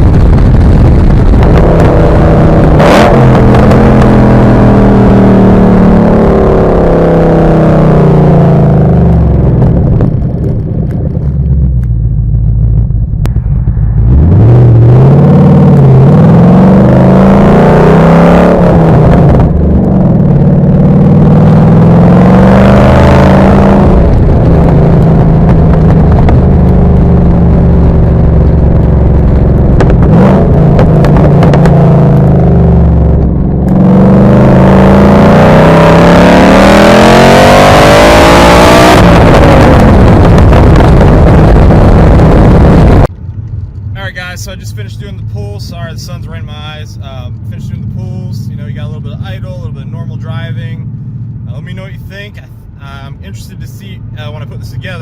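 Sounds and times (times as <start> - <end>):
car exhaust accelerating hard: 0.0 - 55.0.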